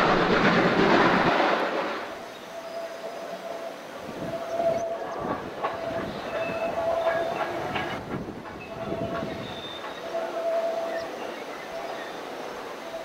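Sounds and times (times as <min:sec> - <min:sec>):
distant steam train rumble: 0:00.0 - 0:13.0.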